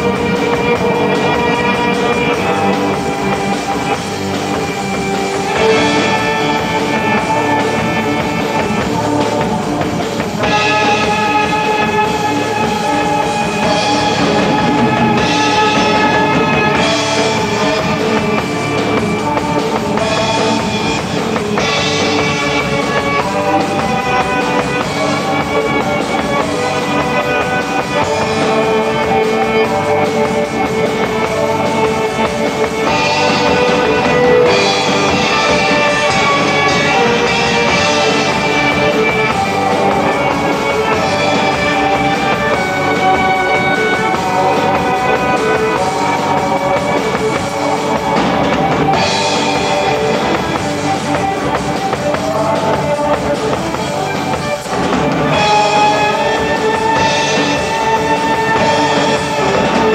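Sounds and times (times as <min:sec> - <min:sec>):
bowed cello: 0:00.0 - 0:59.9
drum kit: 0:00.0 - 0:59.9
small band playing live: 0:00.0 - 0:59.9.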